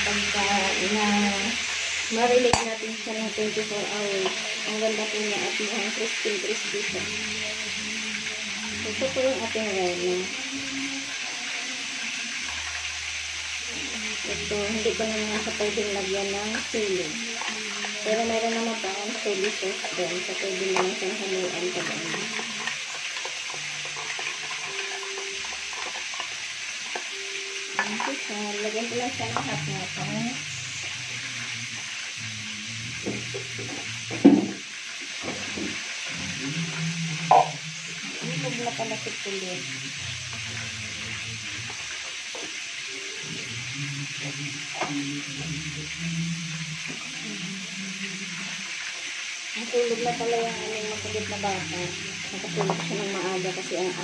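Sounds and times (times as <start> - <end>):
chicken frying in oil: 0.0 - 54.0.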